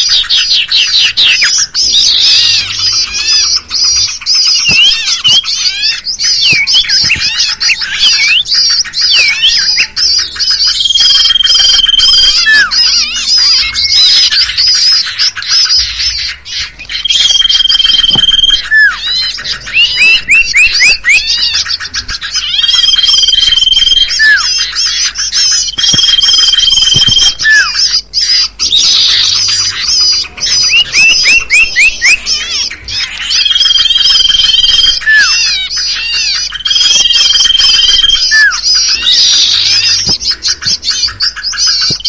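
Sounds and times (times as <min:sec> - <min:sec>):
bird whistle: 0:00.0 - 0:42.0
birds chattering: 0:00.0 - 0:42.0.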